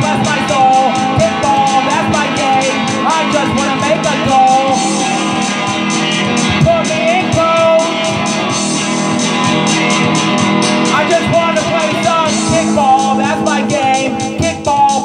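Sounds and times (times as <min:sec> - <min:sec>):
song with guitar and singing: 0:00.0 - 0:15.0.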